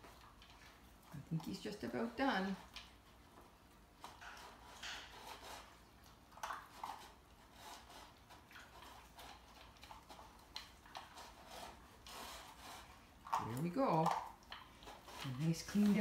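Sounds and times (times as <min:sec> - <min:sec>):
puppy crunching kibble: 0:00.0 - 0:16.0.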